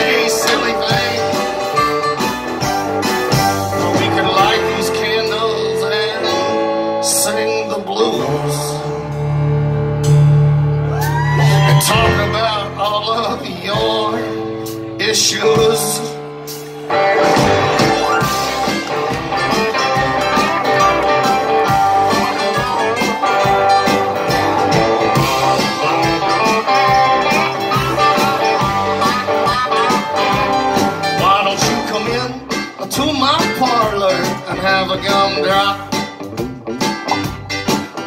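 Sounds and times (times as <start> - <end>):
drums: 0.0 - 38.0
live blues-rock band playing: 0.0 - 38.0.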